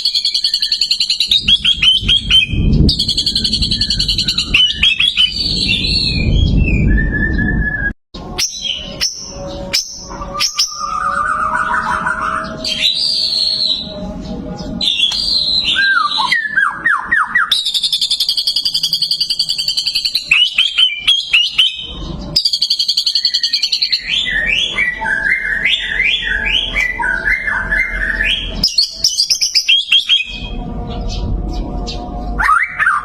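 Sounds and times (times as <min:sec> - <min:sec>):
songbird singing trills and whistles: 0:00.0 - 0:33.0.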